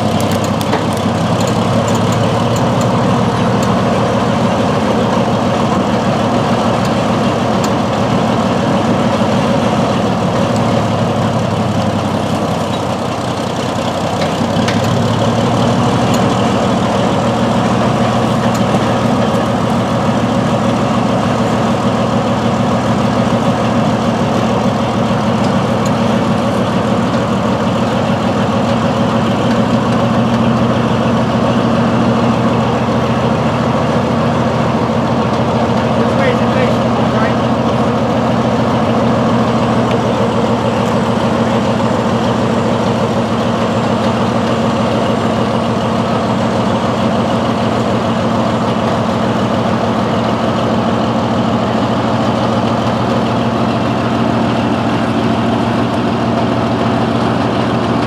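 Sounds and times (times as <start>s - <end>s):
crane engine running: 0.0s - 58.0s.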